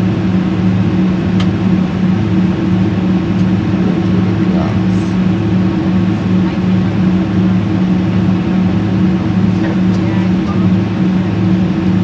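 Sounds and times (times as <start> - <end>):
jet engine drone in cabin: 0.0 - 12.0.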